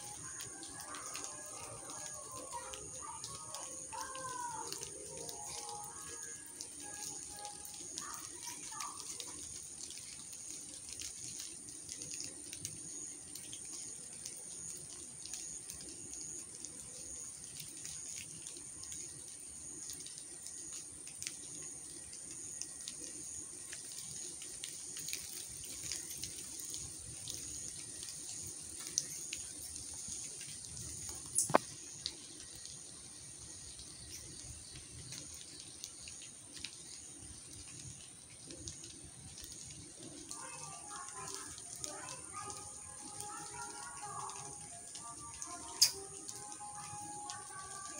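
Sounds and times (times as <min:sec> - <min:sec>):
water dripping from trees: 0:00.0 - 0:47.9.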